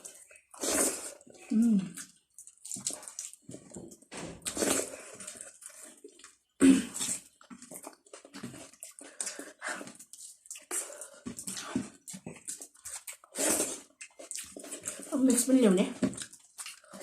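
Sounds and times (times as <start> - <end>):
person chewing and lip-smacking: 0.0 - 15.1, 16.1 - 17.0.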